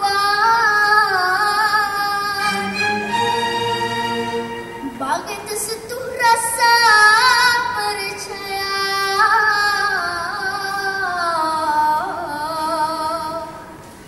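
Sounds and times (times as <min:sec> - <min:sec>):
girl singing into a microphone: 0:00.0 - 0:02.5, 0:05.0 - 0:13.8.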